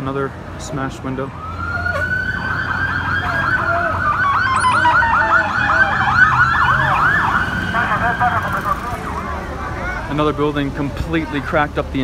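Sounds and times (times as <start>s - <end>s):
sirens yelping: 0.4s - 10.5s.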